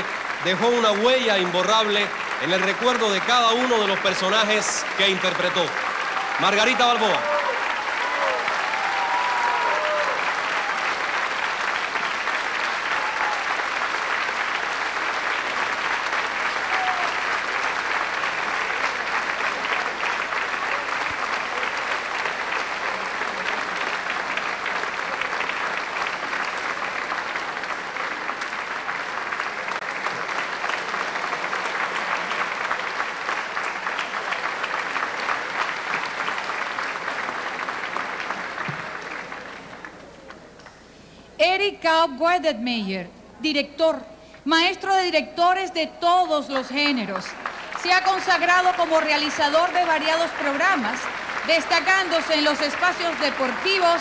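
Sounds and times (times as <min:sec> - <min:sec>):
audience applauding: 0:00.0 - 0:40.8, 0:44.8 - 0:54.0.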